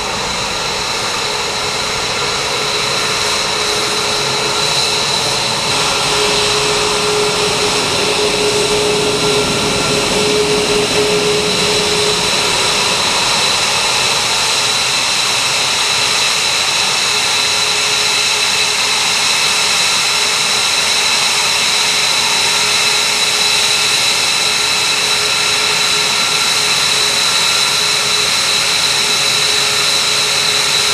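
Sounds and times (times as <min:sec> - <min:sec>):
jet engines idling whine: 0:00.0 - 0:30.9.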